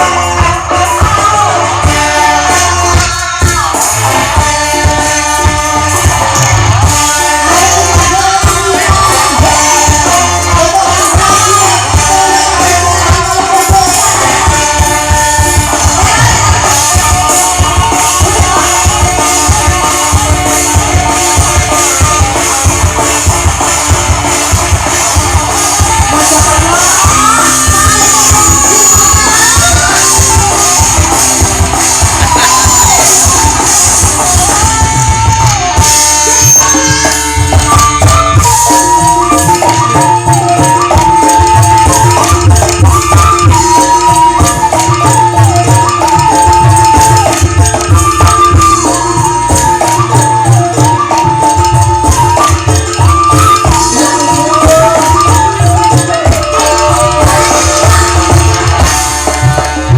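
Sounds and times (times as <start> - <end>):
hand drum beat: 0.0 - 59.9
jingling percussion: 0.0 - 59.9
live band music: 0.0 - 59.9.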